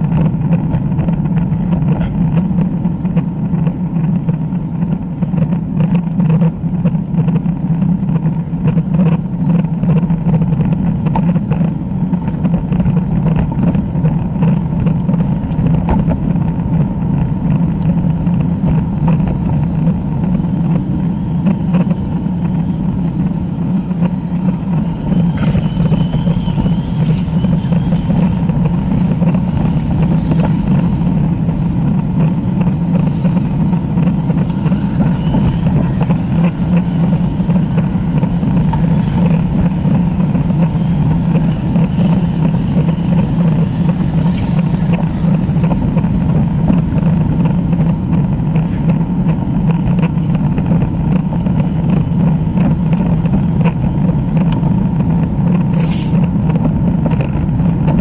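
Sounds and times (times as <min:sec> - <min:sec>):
bicycle road noise: 0:00.0 - 0:58.0
rushing wind: 0:00.0 - 0:58.0.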